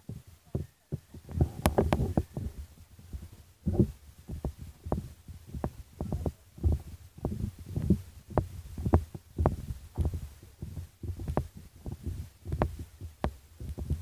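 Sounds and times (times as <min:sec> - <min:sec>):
microphone handling thumps: 0:00.0 - 0:14.0.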